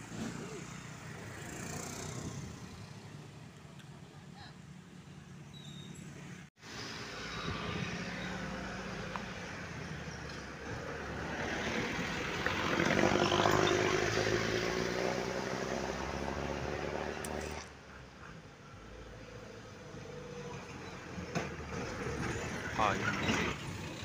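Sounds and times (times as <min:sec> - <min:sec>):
road traffic engines droning: 0:00.0 - 0:24.0.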